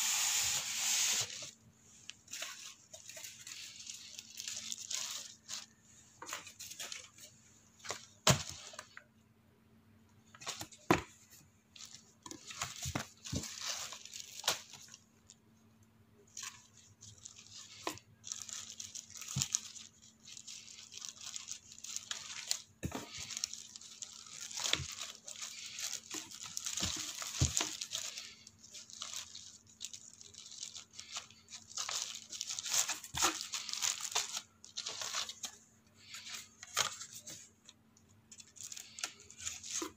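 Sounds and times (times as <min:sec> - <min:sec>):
plastic bags crinkling: 0:02.2 - 0:08.9, 0:11.7 - 0:15.4, 0:16.3 - 0:37.5, 0:38.3 - 0:39.9.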